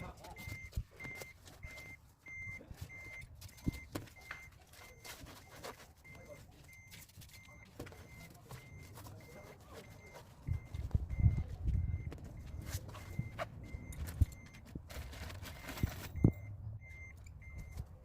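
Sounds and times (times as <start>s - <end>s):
electronic warning beeper: 0.0s - 14.7s.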